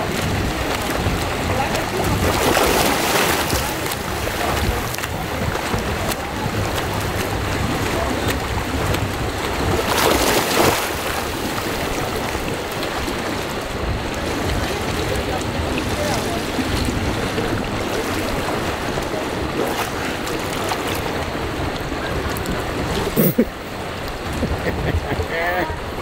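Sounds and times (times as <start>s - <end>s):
pool water splashing: 0.0s - 26.0s
wind noise on microphone: 0.0s - 26.0s.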